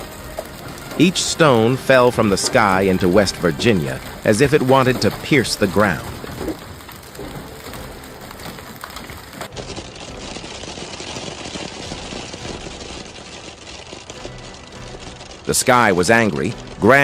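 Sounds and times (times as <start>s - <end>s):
hailstones pelting: 0.0s - 17.0s.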